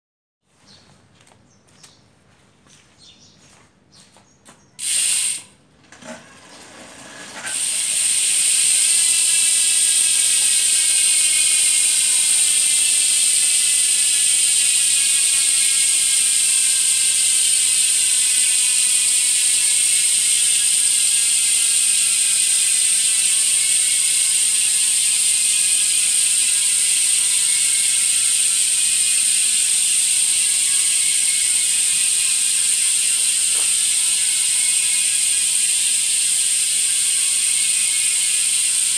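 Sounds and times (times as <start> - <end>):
bicycle freehub buzzing: 4.8 - 38.9.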